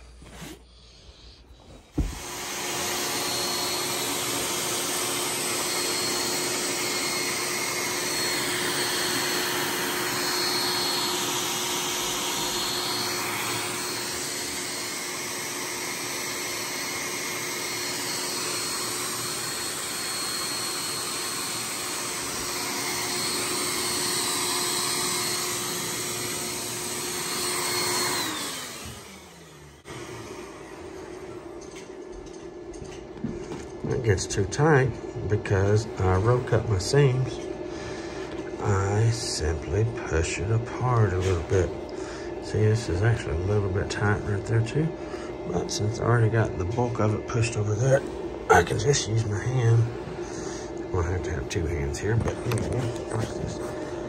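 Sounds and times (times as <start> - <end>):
vacuum cleaner motor whining: 0.0 - 54.0.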